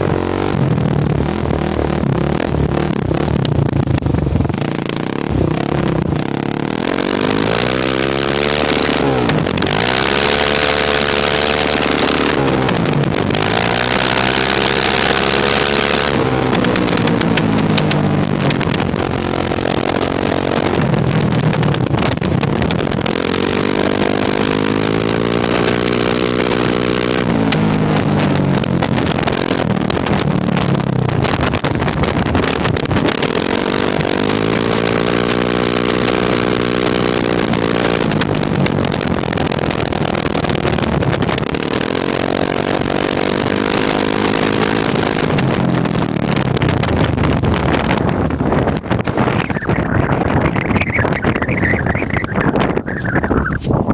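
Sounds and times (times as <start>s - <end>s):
engine popping and backfiring: 0.0s - 53.9s
quad bike engine revving: 0.0s - 53.9s.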